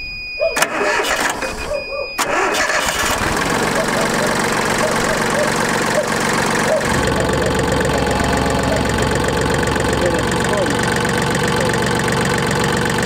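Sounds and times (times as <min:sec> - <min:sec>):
diesel tractor engine idling: 0:00.6 - 0:13.0.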